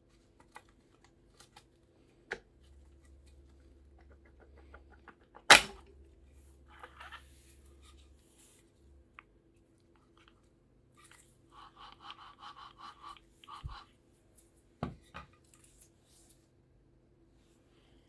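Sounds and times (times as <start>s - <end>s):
faint hand-work noises: 0.0s - 18.0s.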